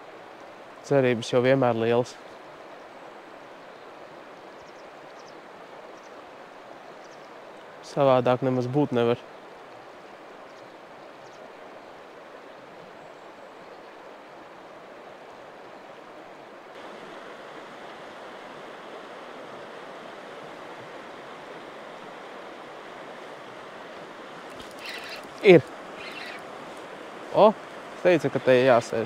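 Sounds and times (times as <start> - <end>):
fast-flowing river water: 0.0 - 29.0.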